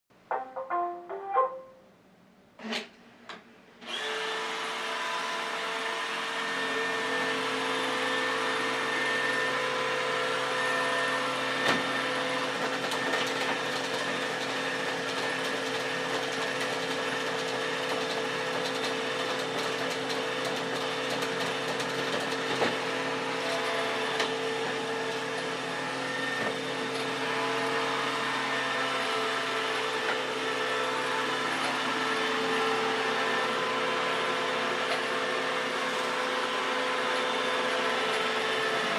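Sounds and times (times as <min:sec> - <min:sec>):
robot vacuum running: 0:03.8 - 0:38.9.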